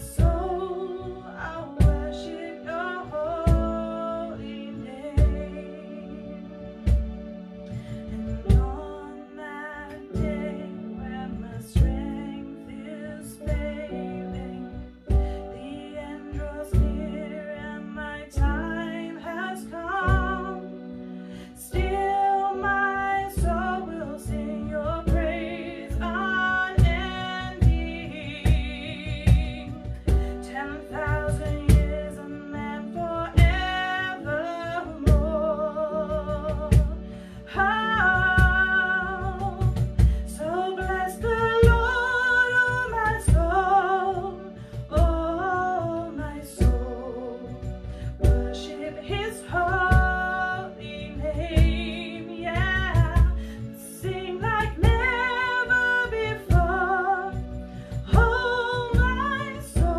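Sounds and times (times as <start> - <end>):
woman singing: 0.0 - 6.4, 7.8 - 59.9
electronic keyboard with beat: 0.0 - 59.9.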